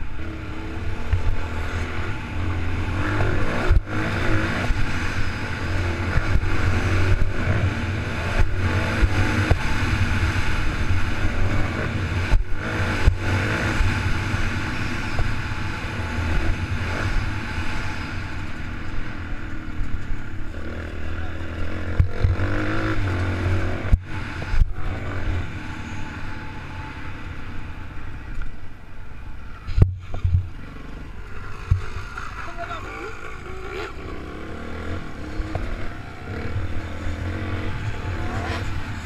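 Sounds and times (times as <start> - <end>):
dirt bike engine revving: 0.0 - 27.9, 30.2 - 39.0.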